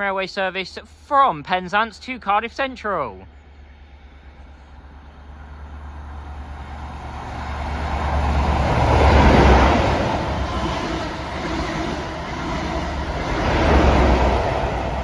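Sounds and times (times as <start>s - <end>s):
diesel train drone: 0.0s - 15.0s
rail noise: 0.0s - 15.0s.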